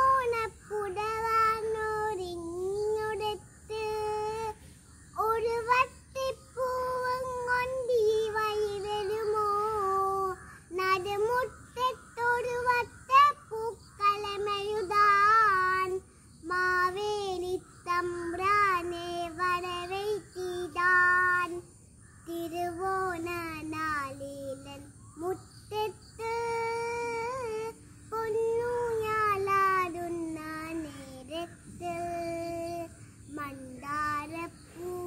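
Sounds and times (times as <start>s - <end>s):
girl singing: 0.0s - 35.0s.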